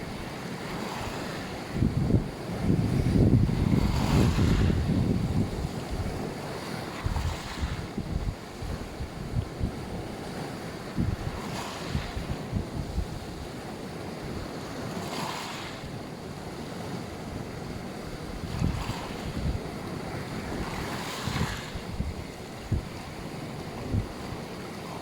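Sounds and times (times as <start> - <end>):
wind buffeting microphone: 0.0 - 14.8, 16.6 - 24.8
waves breaking on beach: 0.0 - 25.0.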